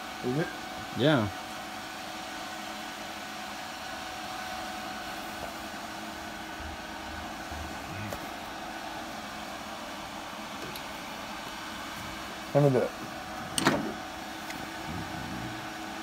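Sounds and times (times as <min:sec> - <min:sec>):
fan whirring hum: 0:00.0 - 0:16.0.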